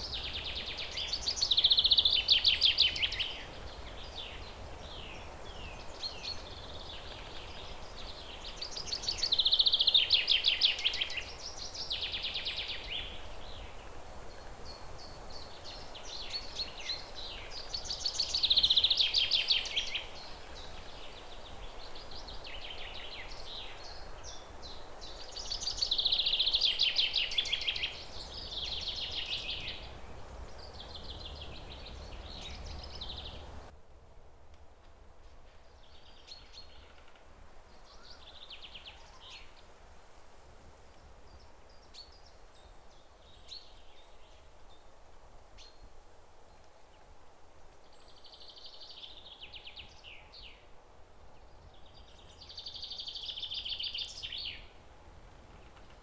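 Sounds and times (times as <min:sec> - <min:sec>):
songbirds trilling and chirping: 0:00.0 - 0:33.7, 0:35.6 - 0:39.9, 0:40.8 - 0:56.0.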